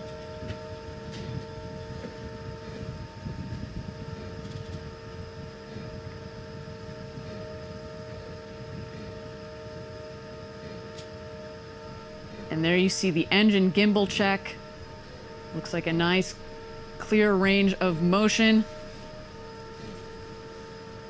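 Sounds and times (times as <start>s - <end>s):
faint hum of steady tones: 0.0s - 21.0s
steady low rumble: 0.0s - 21.0s.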